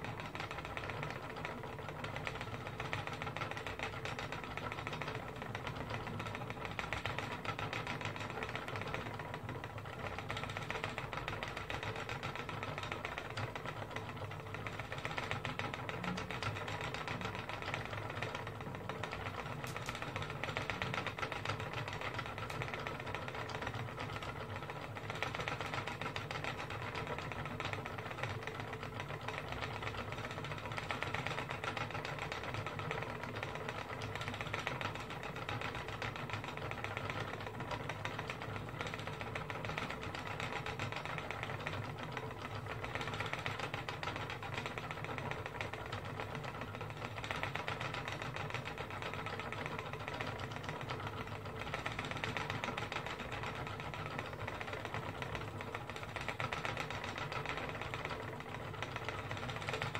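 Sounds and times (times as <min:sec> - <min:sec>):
spinning wheel ticking and clattering: 0:00.0 - 0:59.9.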